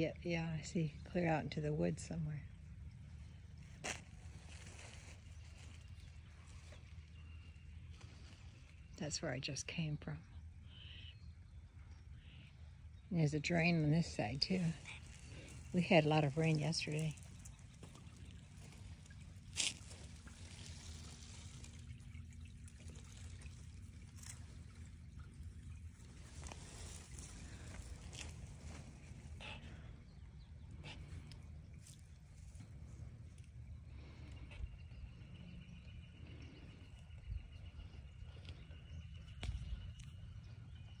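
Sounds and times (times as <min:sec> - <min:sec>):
rainwater trickling in channel: 0:00.0 - 0:11.0, 0:11.6 - 0:37.2.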